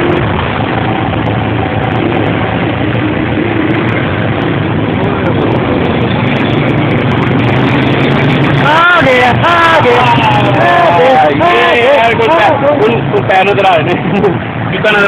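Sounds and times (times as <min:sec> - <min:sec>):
loud rushing noise: 0:00.0 - 0:15.0
vehicle engine running: 0:00.0 - 0:15.0.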